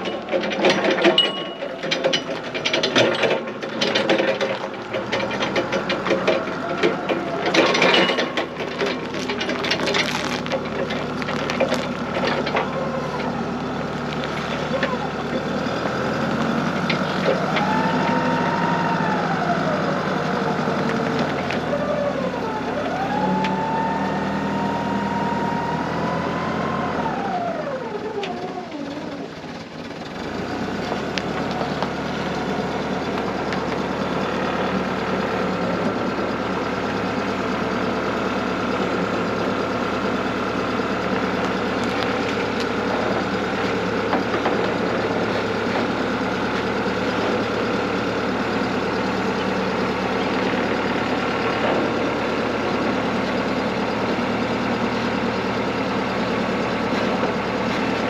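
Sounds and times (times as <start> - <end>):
forklift engine revving: 0.0 - 58.0.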